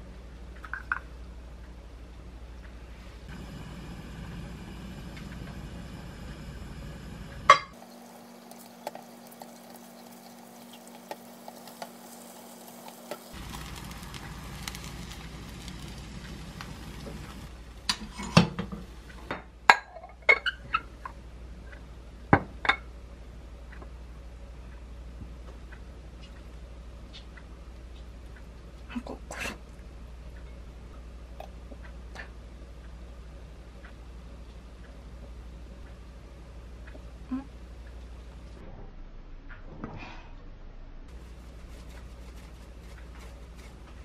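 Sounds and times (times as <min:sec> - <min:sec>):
low steady hum: 0:00.0 - 0:39.7.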